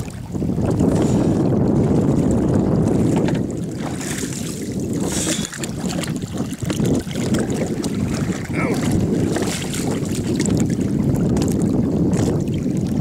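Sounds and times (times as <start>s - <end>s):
water splashing against boat: 0.0s - 13.0s
wind rumbling on microphone: 0.0s - 13.0s.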